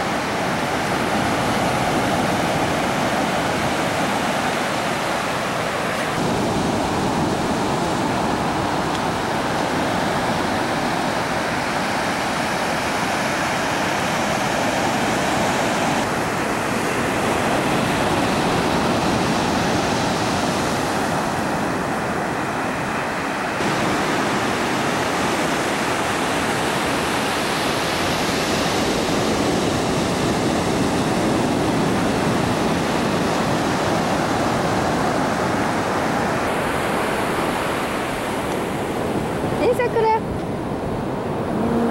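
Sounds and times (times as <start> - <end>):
ocean surf rushing: 0.0 - 41.9.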